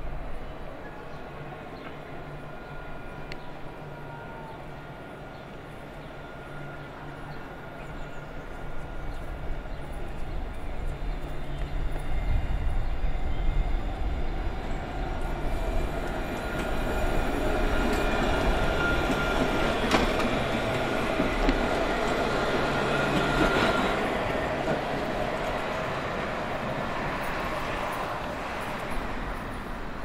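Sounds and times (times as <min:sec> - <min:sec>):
tram wheels rumbling on rails: 0:00.0 - 0:30.0.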